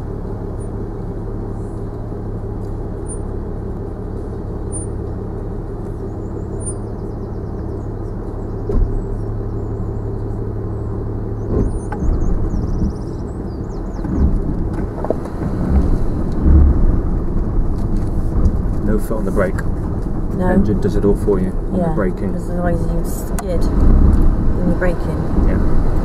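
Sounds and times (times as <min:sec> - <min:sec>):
low engine drone: 0:00.0 - 0:26.0
vehicle thumps over ruts: 0:00.0 - 0:26.0.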